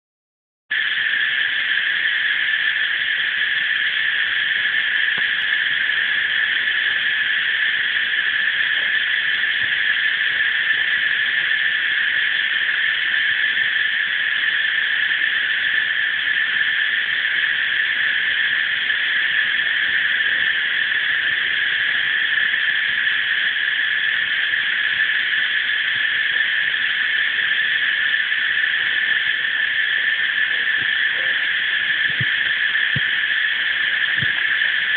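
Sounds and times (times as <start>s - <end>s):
cicadas buzzing: 0.7s - 34.9s.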